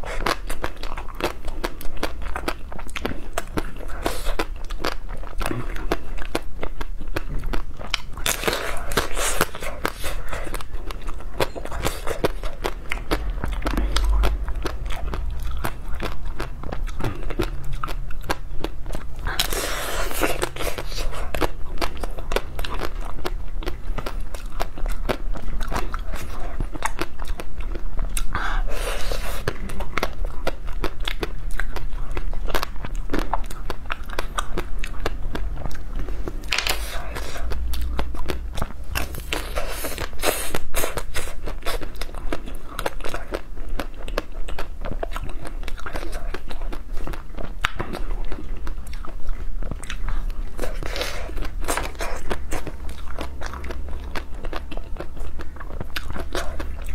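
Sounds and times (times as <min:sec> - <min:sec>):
wet chewing and mouth clicks: 0:00.0 - 0:56.9.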